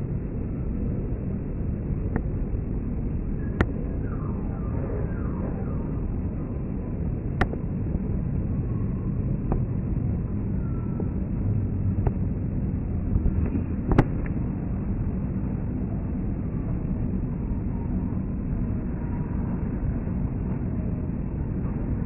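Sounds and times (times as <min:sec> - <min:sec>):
jet aircraft rumble overhead: 0:00.0 - 0:22.0.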